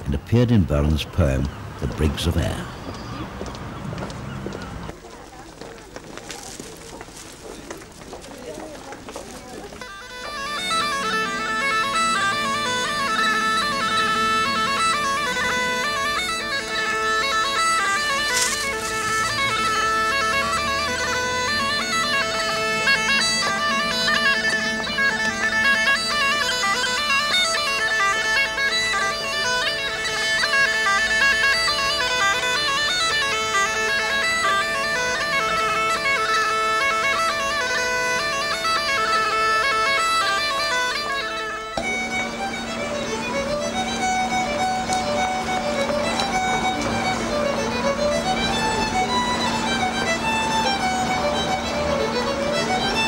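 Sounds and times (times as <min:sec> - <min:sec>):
bagpipes playing a tune: 0:00.0 - 0:04.9, 0:09.0 - 0:53.0
fiddle tune over low drone: 0:00.0 - 0:04.9, 0:09.6 - 0:53.0.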